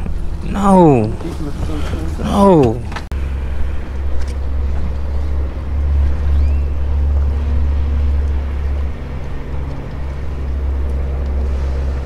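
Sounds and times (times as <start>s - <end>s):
boat motor rumble: 0.0s - 12.0s.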